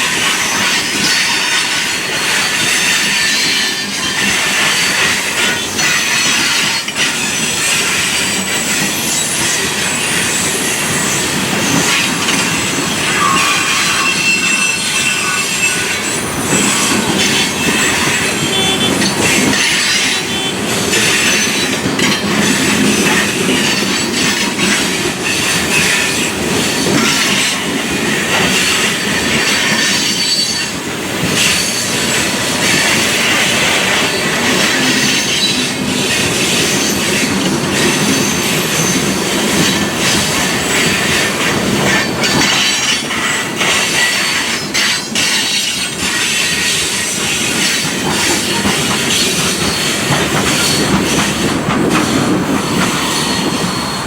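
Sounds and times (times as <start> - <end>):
freight train cars clattering: 0.0 - 54.0
steel wheels squealing on rails: 0.0 - 54.0.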